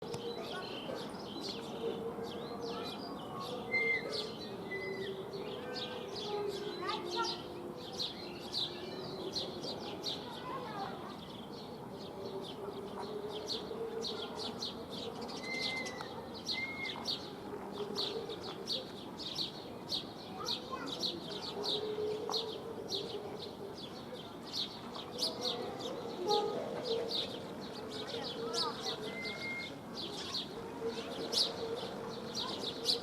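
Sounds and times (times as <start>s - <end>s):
sparrows chirping: 0.0s - 33.0s.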